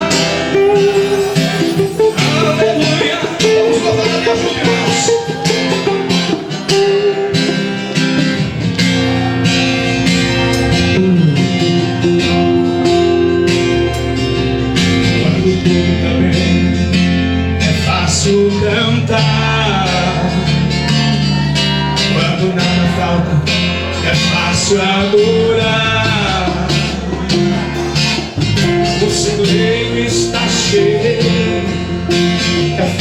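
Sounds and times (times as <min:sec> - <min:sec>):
steady beat: 0:00.0 - 0:18.3, 0:20.3 - 0:32.7
guitar: 0:00.0 - 0:33.0
low bass notes: 0:00.0 - 0:33.0.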